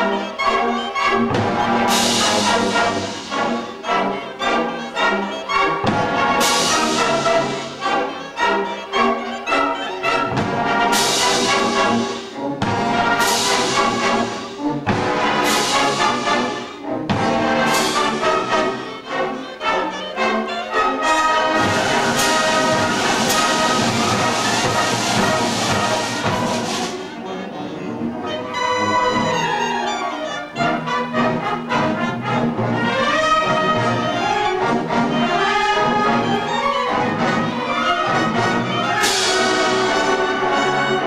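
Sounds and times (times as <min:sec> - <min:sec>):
brass band playing: 0:00.0 - 0:41.0.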